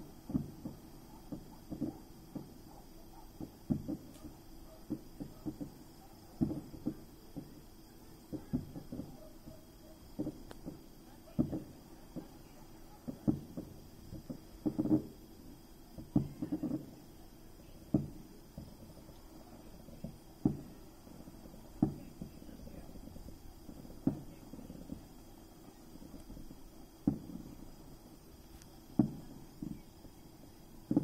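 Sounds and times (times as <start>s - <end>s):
distant fireworks booming: 0.0s - 31.0s.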